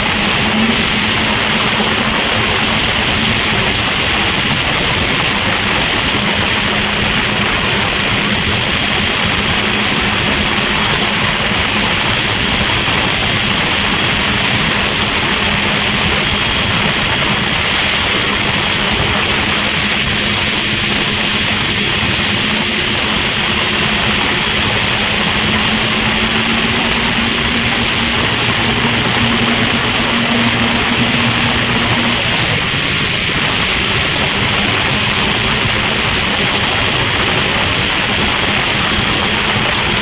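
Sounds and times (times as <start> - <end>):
snowmobile engine running: 0.0 - 40.0.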